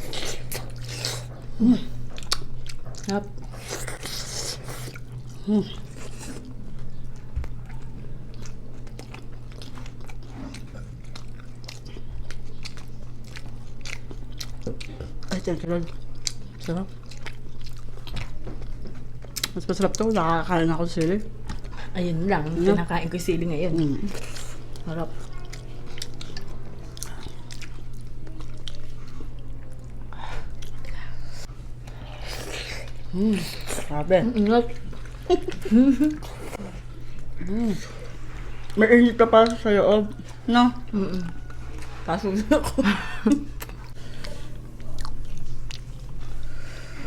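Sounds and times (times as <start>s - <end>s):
people chewing and smacking: 0.0s - 47.0s.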